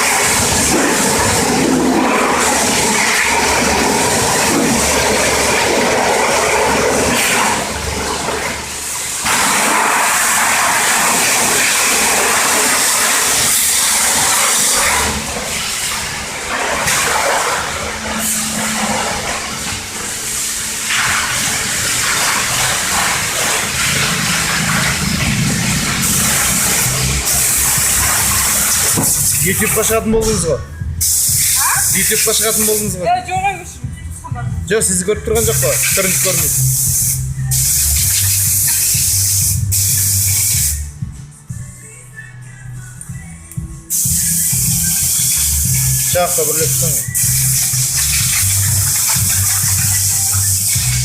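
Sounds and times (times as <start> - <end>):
water jet spraying hiss: 0.0 - 30.0, 31.0 - 33.0, 35.4 - 40.9, 43.9 - 51.0.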